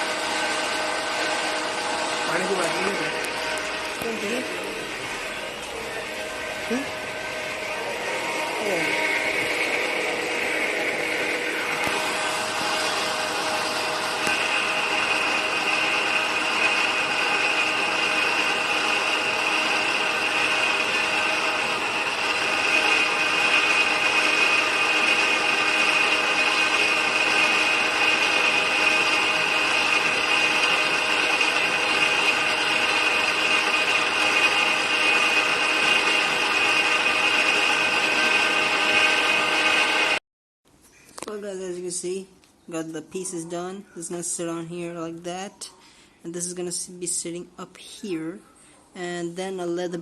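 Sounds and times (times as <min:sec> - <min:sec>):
power tool cutting metal: 0:00.0 - 0:40.2.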